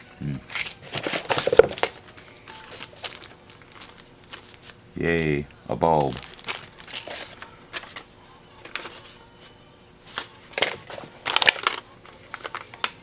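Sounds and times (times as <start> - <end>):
packaging rustling and crinkling: 0.5 - 4.8, 5.9 - 9.3, 10.1 - 13.0.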